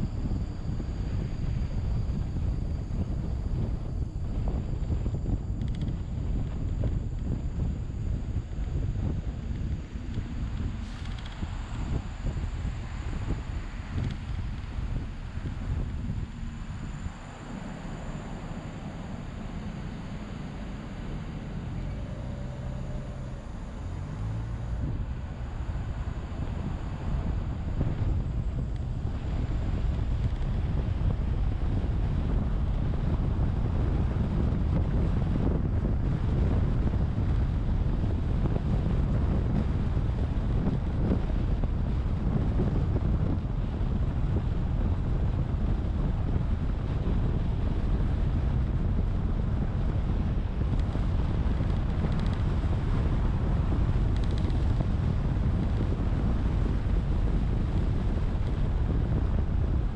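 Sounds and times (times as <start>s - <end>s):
car road noise: 0.0s - 59.9s
wind buffeting microphone: 0.0s - 59.9s.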